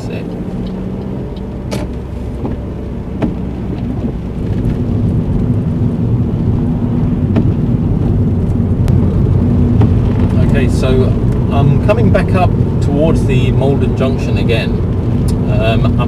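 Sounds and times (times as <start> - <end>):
car engine inside cabin: 0.0 - 16.0
tyres on wet road: 0.0 - 16.0.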